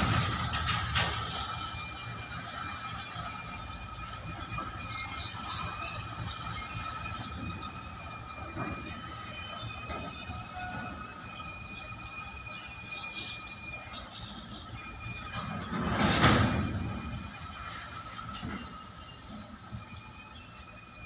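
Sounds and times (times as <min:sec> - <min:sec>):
train wheels squealing on rails: 0:00.0 - 0:21.0
wagons rolling low rumble: 0:00.0 - 0:21.0.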